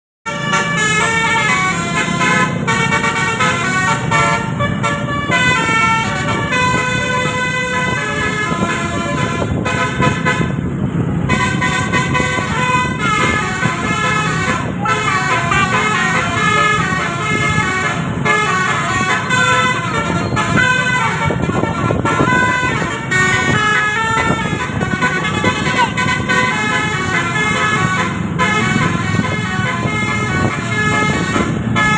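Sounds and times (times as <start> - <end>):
bus musical horn melody: 0.2 - 31.9.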